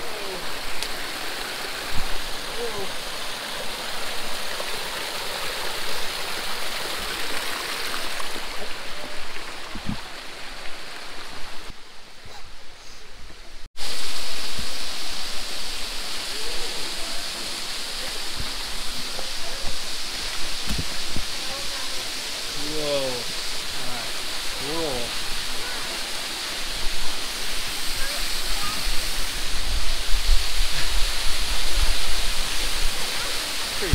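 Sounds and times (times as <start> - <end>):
creek water rushing over rocks: 0.0 - 33.9.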